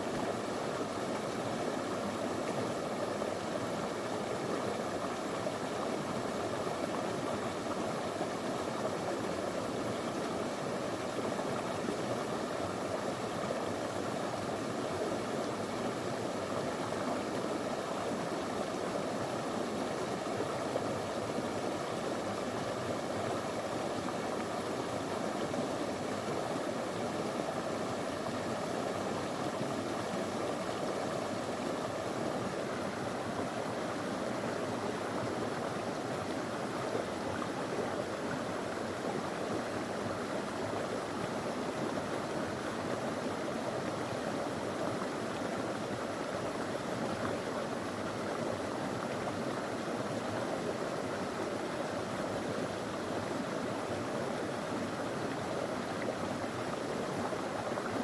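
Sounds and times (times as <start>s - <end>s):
river flowing over stones: 0.0s - 58.0s.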